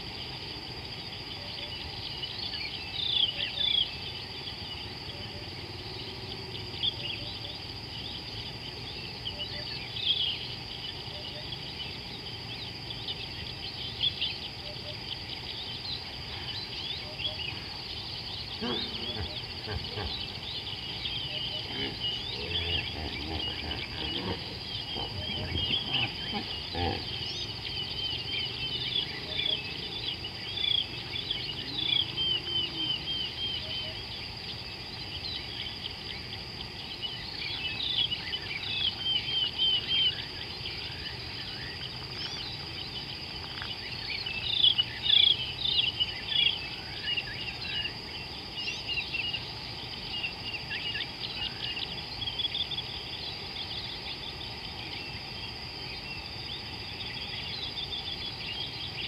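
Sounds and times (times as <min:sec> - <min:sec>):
high insect drone: 0:00.0 - 0:59.0
birds chirping: 0:01.1 - 0:55.3.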